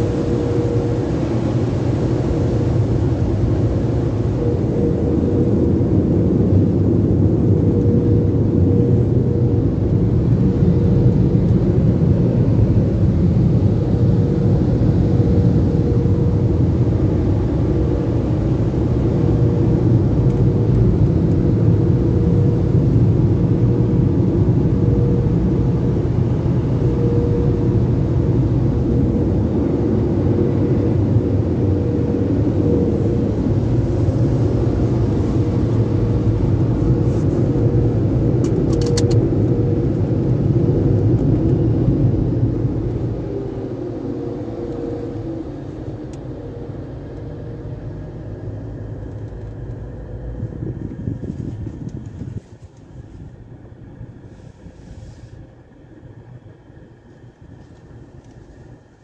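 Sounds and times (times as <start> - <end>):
car wash dryer blowers rumbling: 0.0 - 59.0.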